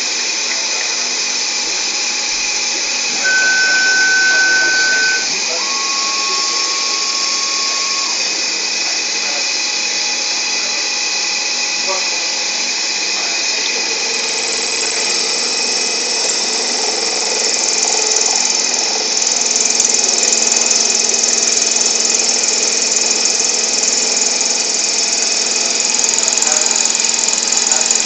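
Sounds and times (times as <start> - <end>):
machine whining: 2.0 - 20.7, 21.3 - 28.0.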